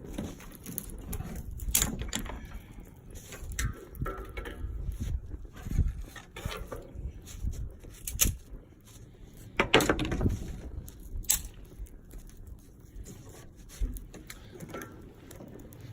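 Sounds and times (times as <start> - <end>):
wind buffeting microphone: 0.0 - 14.1.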